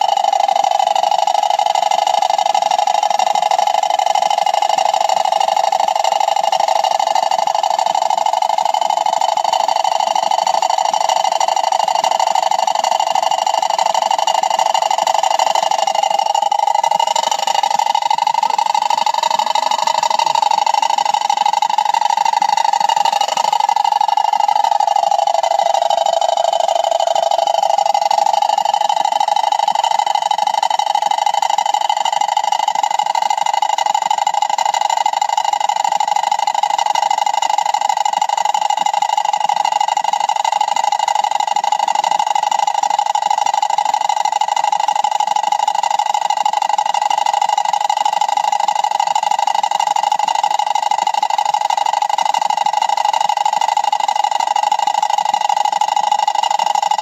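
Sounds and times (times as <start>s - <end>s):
toy water wheel whirring: 0.0s - 57.0s.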